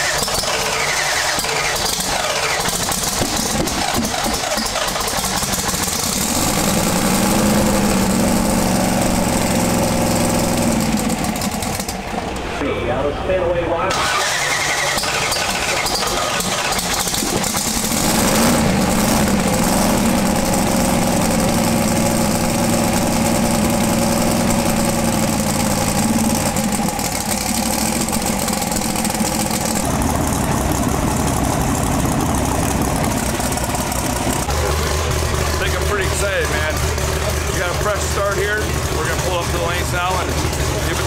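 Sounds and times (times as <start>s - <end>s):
drag racing engine idling: 0.0s - 41.0s.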